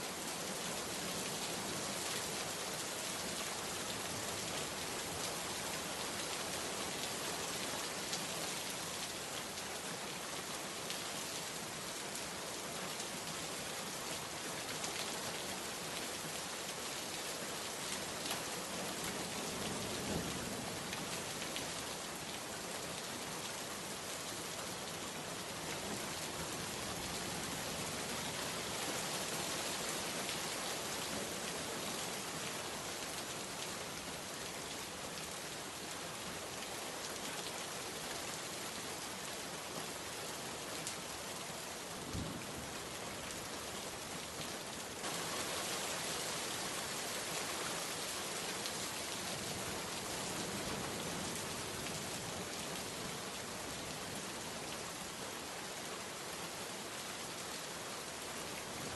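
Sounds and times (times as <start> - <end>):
heavy rain downpour: 0.0 - 58.9.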